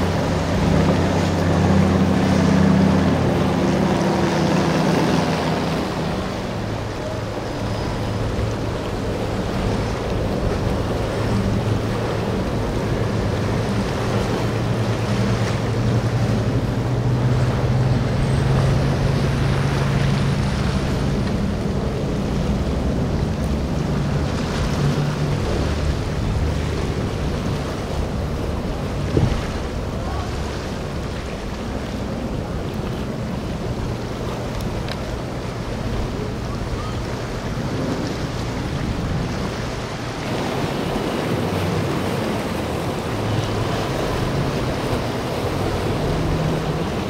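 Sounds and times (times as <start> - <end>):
powerboat engines droning: 0.0 - 47.0
wind buffeting microphone: 0.0 - 47.0.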